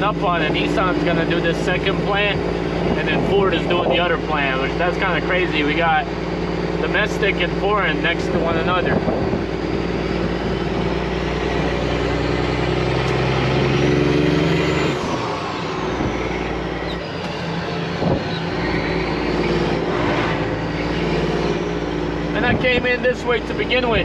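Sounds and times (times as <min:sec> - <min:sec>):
diesel truck engine from inside cab: 0:00.0 - 0:24.0.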